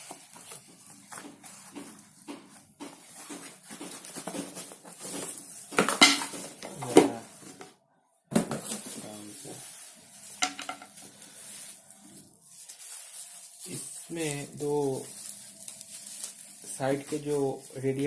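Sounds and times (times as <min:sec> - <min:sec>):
packaging rustling and clattering: 0:00.0 - 0:07.7, 0:08.3 - 0:18.0.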